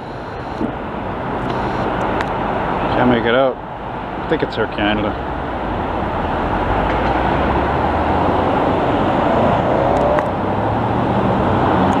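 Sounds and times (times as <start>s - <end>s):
jet airliner engine roar: 0.0s - 12.0s.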